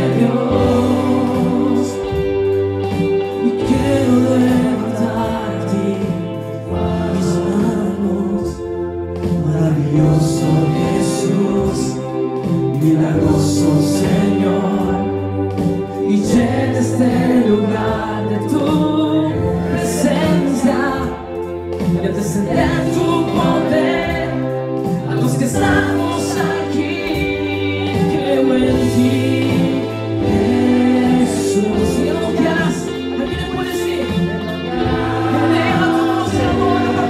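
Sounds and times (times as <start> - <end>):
band playing: 0.0 - 37.0
group of voices singing: 0.0 - 37.0
low bass notes: 0.0 - 37.0.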